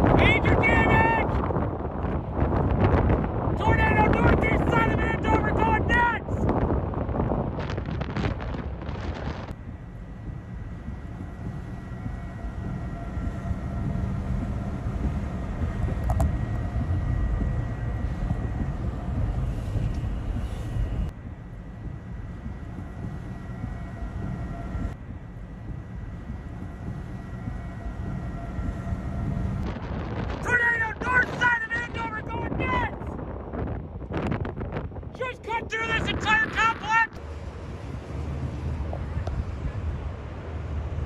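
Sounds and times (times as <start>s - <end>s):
faint whining tones: 0.0s - 35.2s, 35.9s - 41.0s
tornado rumbling roar: 0.0s - 41.0s
wind on microphone: 0.0s - 41.0s.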